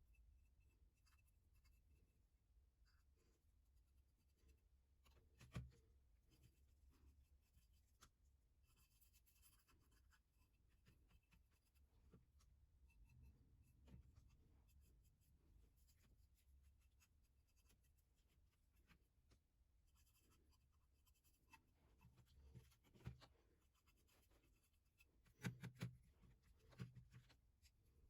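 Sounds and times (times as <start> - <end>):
faint scratching and rubbing: 0.0 - 28.0.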